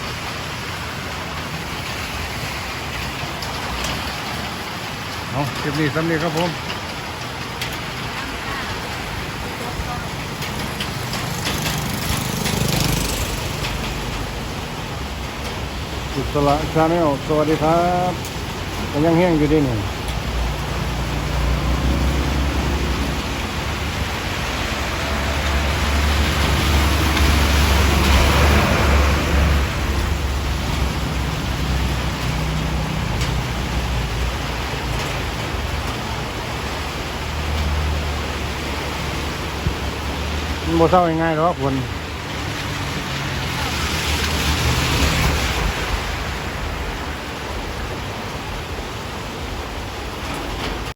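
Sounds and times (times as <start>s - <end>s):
rain hissing: 0.0s - 50.9s.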